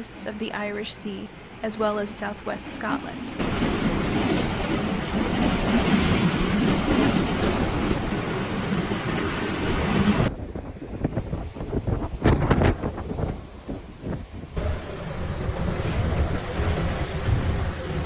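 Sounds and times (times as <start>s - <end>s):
strong wind buffeting microphone: 3.3s - 18.0s.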